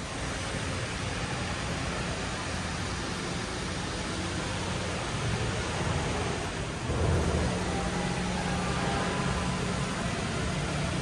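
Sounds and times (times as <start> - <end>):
low steady hum: 0.0 - 11.0
water rushing into pool: 0.0 - 11.0.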